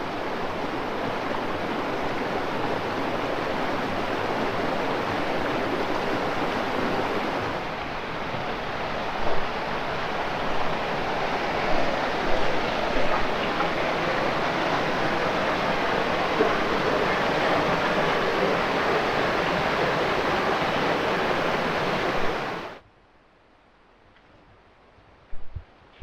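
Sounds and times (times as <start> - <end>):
flowing river water: 0.0 - 22.8.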